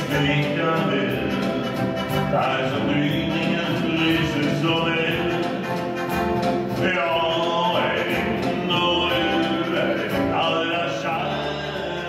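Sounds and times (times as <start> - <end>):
man singing into a microphone: 0.0 - 6.0, 6.7 - 12.0
acoustic guitar: 0.0 - 12.0.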